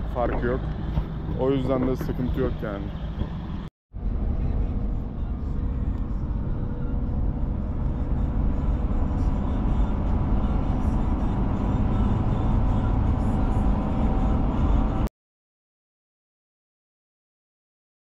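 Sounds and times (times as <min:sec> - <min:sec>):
minibus engine and road rumble: 0:00.0 - 0:15.1.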